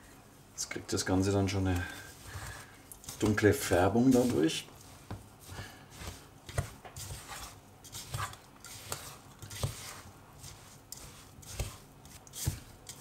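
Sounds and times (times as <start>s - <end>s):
thick mixture stirred in bowl: 0.6s - 13.0s.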